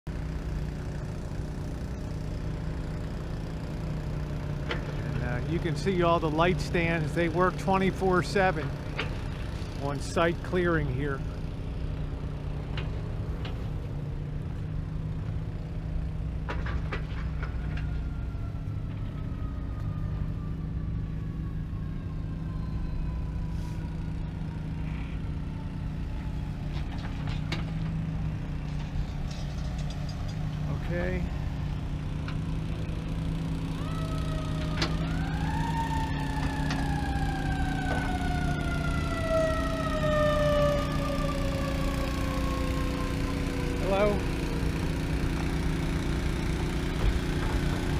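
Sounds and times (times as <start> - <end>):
low engine hum: 0.1 - 47.9
distant siren: 0.2 - 13.6, 14.6 - 47.9.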